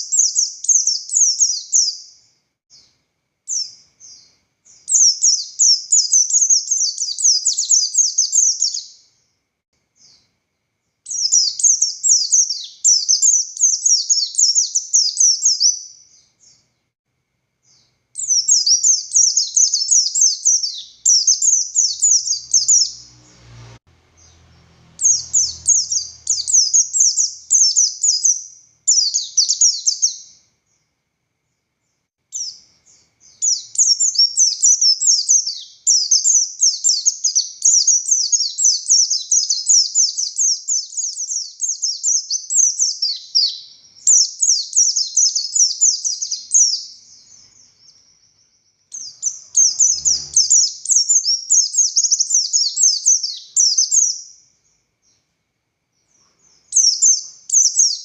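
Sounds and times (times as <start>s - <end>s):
white-eye bird singing: 0.0s - 9.4s, 10.0s - 16.9s, 17.6s - 55.3s, 55.9s - 58.0s.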